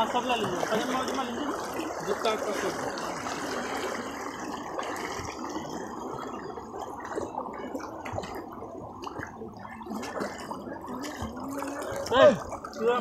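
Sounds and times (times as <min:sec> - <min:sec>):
water sloshing around wading legs: 0:00.0 - 0:13.0.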